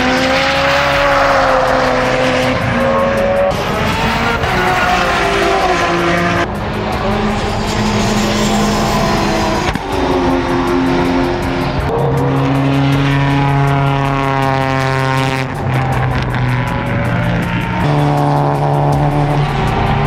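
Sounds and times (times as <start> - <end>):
race car engines passing at speed: 0.0 - 20.0.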